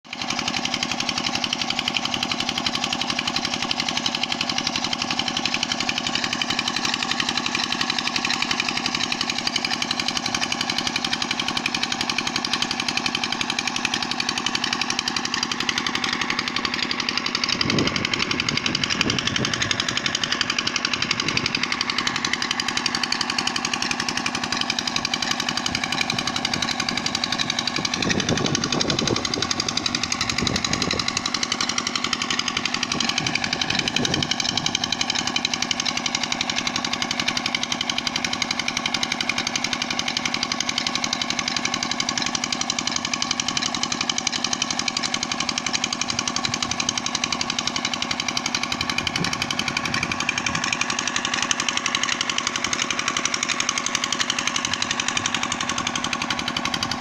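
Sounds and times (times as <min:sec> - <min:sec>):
small engine knocking steadily: 0:00.0 - 0:57.0
water gushing from pipe: 0:00.1 - 0:57.0.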